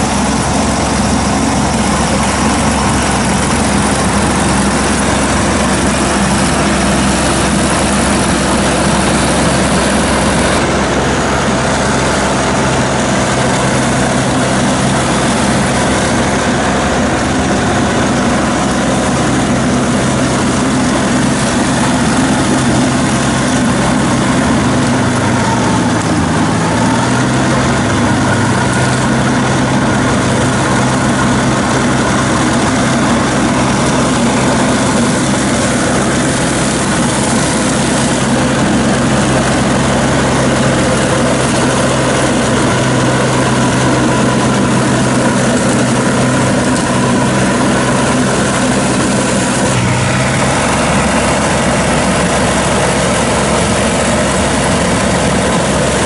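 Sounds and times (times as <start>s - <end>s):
mower engine running under load: 0.0s - 56.0s
rotor cutting through weeds: 0.0s - 56.0s.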